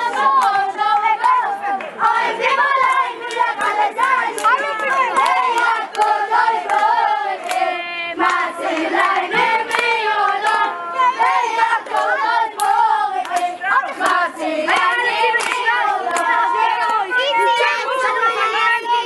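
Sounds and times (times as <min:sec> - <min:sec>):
hand claps: 0:00.0 - 0:17.1
boys chanting together: 0:00.0 - 0:19.0.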